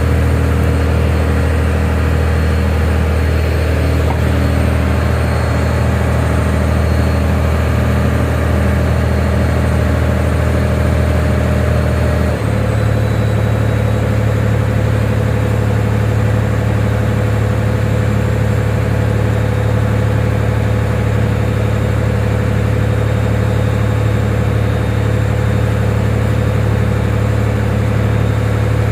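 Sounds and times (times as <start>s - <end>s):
heavy engine humming: 0.0s - 28.9s.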